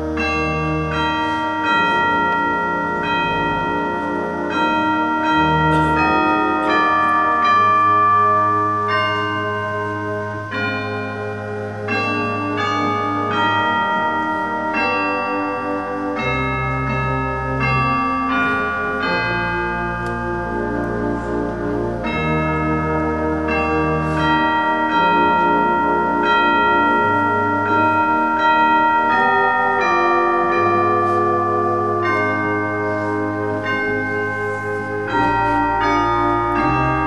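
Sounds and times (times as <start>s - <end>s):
slow church organ music: 0.0s - 37.0s.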